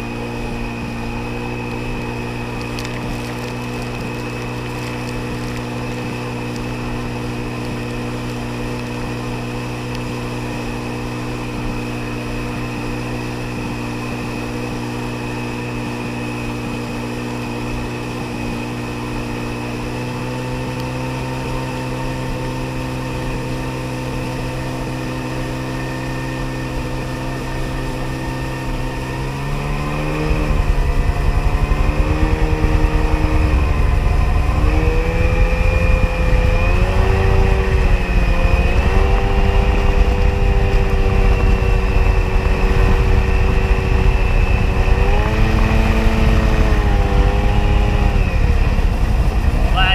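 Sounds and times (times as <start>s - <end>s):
jet ski engine running: 0.0s - 49.9s.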